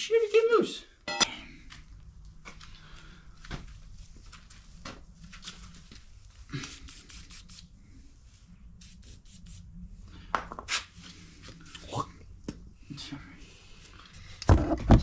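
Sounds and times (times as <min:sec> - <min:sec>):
steady low hum: 0:01.0 - 0:14.4.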